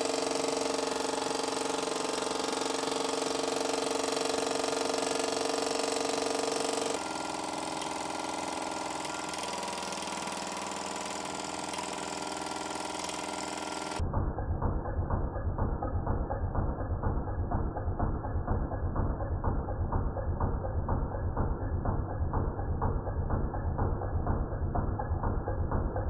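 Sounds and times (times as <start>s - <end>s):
small steam engine running: 0.0s - 26.0s.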